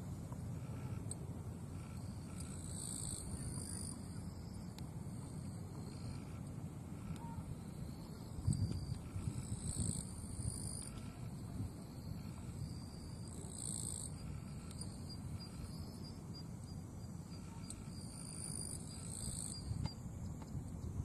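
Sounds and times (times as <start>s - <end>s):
insects buzzing: 0.0s - 21.0s
faint even ticks: 0.3s - 21.0s.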